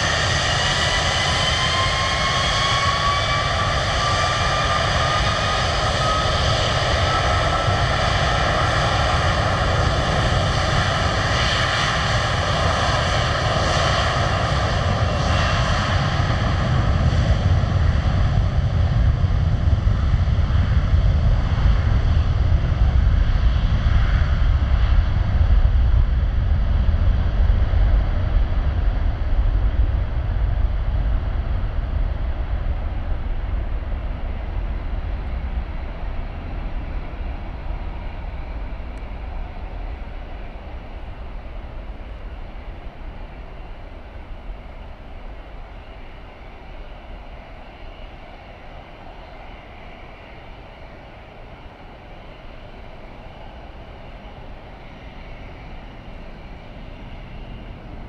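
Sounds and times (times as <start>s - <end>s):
jet engines whining and rumbling: 0.0s - 58.0s.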